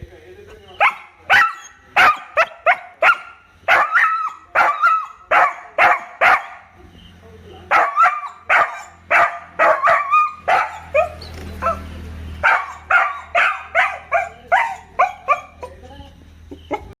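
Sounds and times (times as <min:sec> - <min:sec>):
dog barking: 0:00.7 - 0:06.7, 0:07.7 - 0:15.8.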